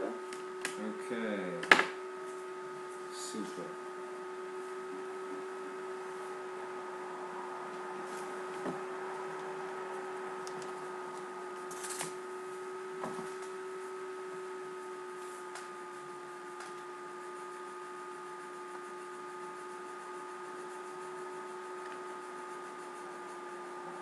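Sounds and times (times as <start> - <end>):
steady whine of held tones: 0.0 - 24.0.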